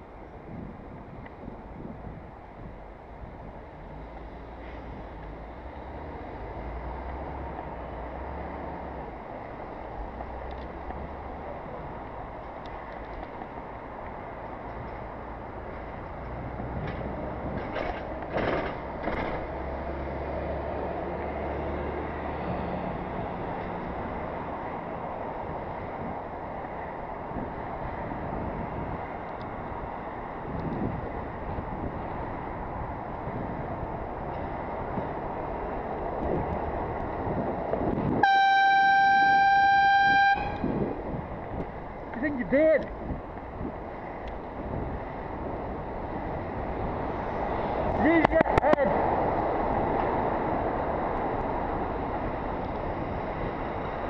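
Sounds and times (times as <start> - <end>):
passing traffic rumble: 0.0 - 54.0
wind noise: 0.0 - 54.0.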